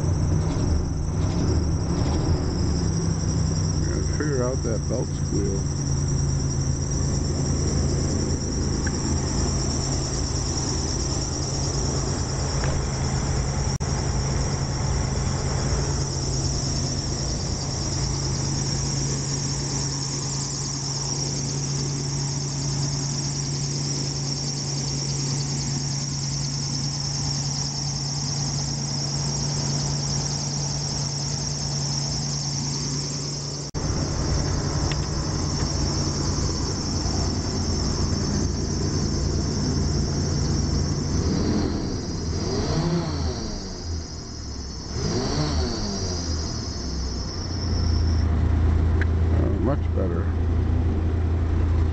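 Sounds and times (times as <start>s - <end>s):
drive belt squealing: 0.0s - 50.4s
machinery running hum: 0.0s - 51.9s.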